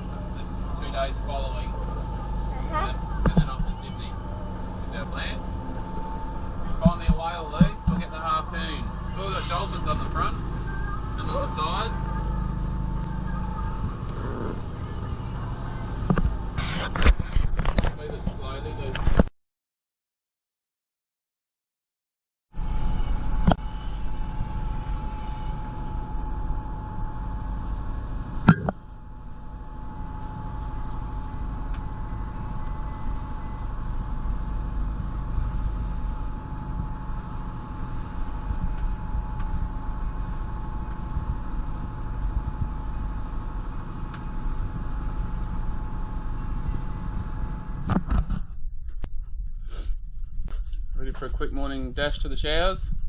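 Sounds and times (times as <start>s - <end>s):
boat engine rumbling: 0.0s - 19.0s, 22.7s - 53.0s.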